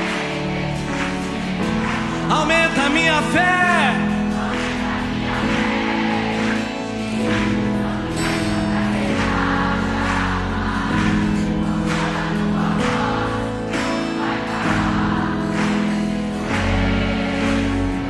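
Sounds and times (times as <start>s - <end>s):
congregation singing: 0.0s - 18.0s
worship band playing: 0.0s - 18.0s.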